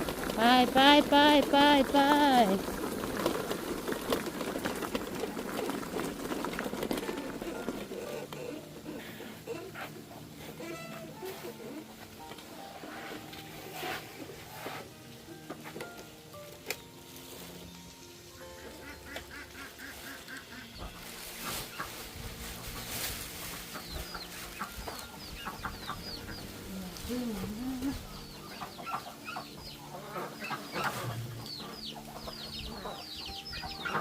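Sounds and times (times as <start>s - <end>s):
chicks peeping: 0.0s - 12.0s, 17.4s - 34.0s
chickens clucking: 0.0s - 14.9s, 17.4s - 34.0s.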